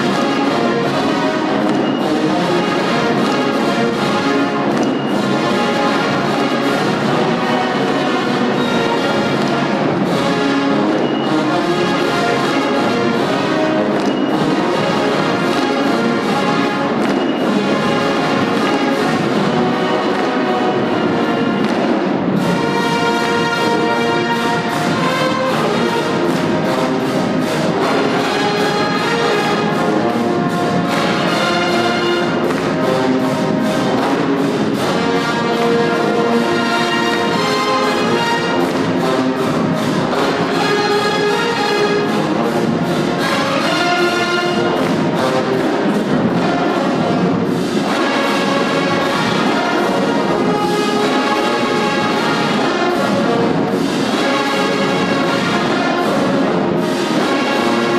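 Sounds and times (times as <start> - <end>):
flutes: 0.0 - 57.9
saxophones: 0.0 - 57.9
trumpets: 0.0 - 57.9.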